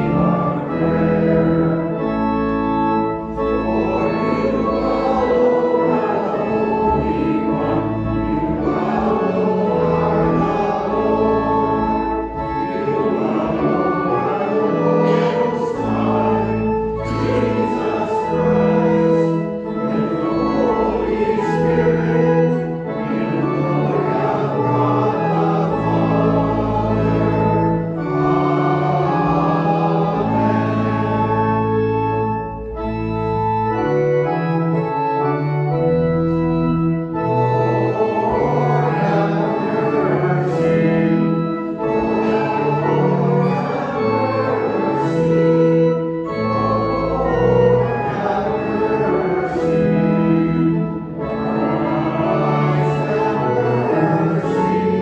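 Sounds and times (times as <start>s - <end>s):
organ: 0.0s - 55.0s
voices singing a hymn: 0.0s - 55.0s.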